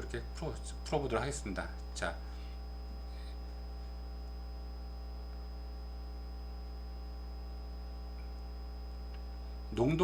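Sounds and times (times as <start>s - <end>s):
faint high whine: 0.0s - 10.0s
low electrical hum: 0.0s - 10.0s.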